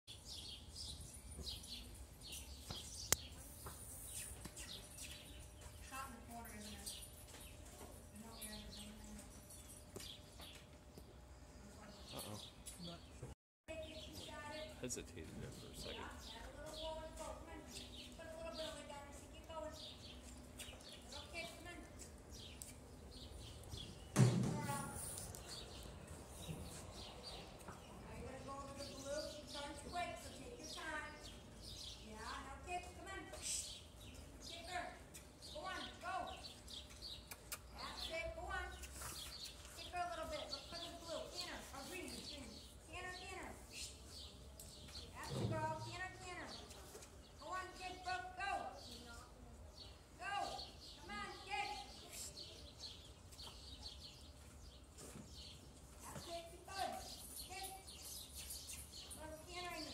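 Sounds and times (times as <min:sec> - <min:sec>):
small birds chirping: 0:00.1 - 0:59.9.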